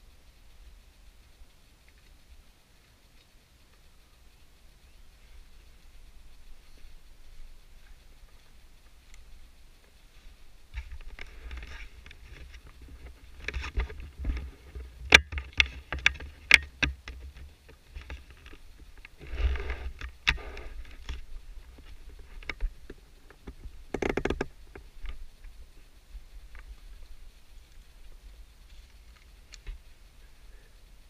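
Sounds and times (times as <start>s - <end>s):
wind rumble on microphone: 3.9s - 31.0s.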